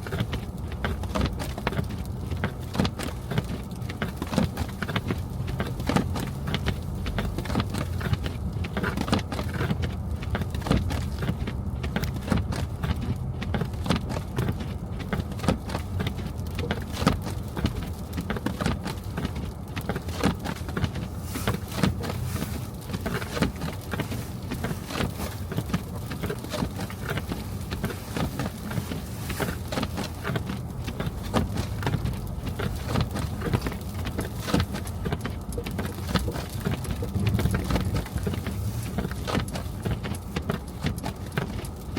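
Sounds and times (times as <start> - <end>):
car engine and tyres rumbling: 0.0 - 41.9.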